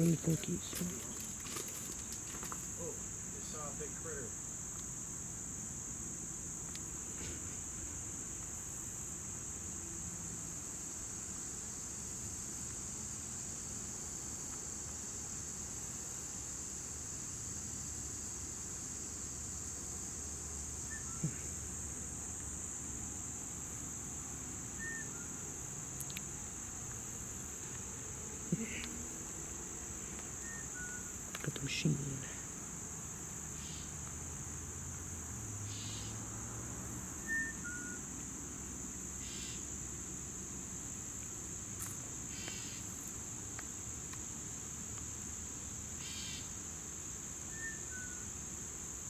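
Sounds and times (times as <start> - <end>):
insects chirping chorus: 0.0 - 49.0.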